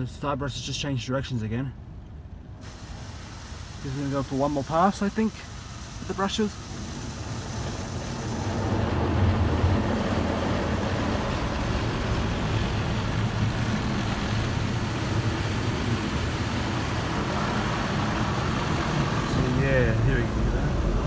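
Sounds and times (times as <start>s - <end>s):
car wash brushes and machinery: 0.0s - 21.0s.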